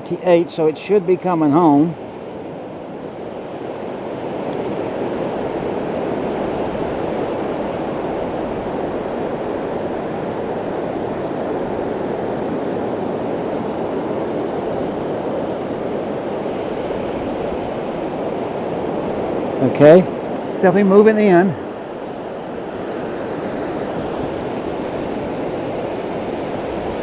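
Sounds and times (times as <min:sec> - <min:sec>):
wind on beach: 0:00.0 - 0:27.0.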